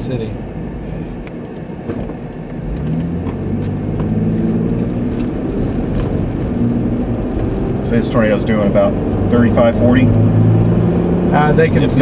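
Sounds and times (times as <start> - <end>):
car engine accelerating: 0.0 - 12.0
road rumble: 0.0 - 12.0.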